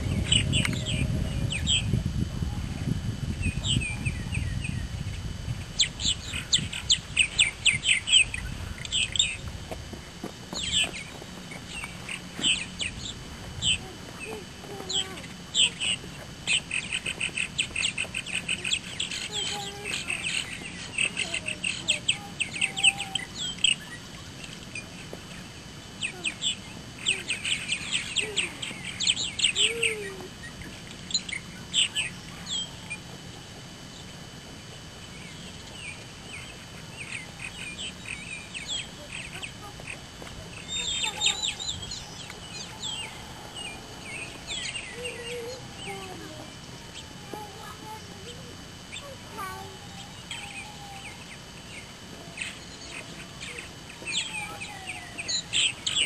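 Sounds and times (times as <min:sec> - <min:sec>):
birds chattering: 0:00.0 - 0:56.0.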